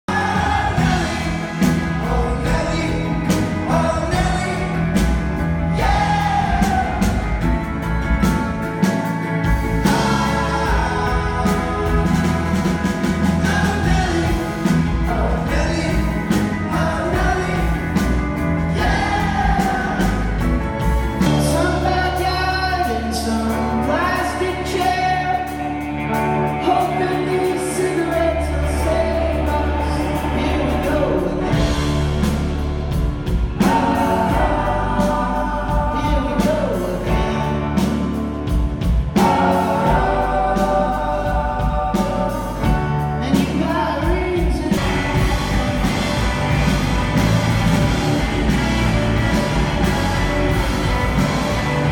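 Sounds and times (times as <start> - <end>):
person singing: 0.0 - 32.6, 33.3 - 38.2, 38.8 - 51.9
live rock band: 0.0 - 51.9.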